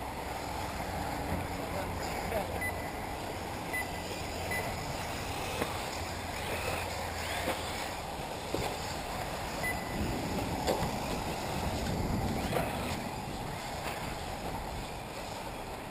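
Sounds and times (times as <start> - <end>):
tyre and track noise: 0.0 - 15.9
electric motor whine: 2.8 - 15.9.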